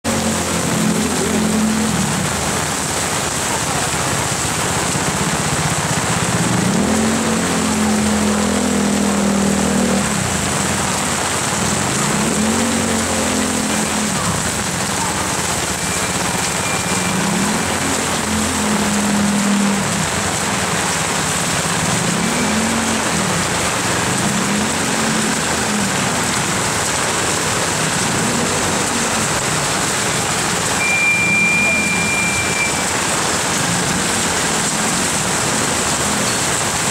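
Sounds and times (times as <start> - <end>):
heavy rain: 0.0 - 36.9
vehicle engine hum: 0.0 - 36.9.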